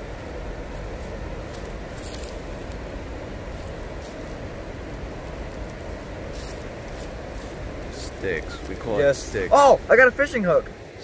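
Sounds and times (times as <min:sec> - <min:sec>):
faint rustles: 0:00.0 - 0:10.0.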